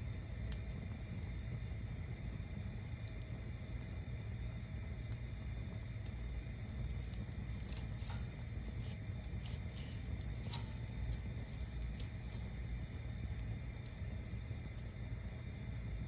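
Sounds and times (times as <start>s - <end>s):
burning wood crackling and popping: 0.0s - 16.0s
fire low rumble: 0.0s - 16.0s.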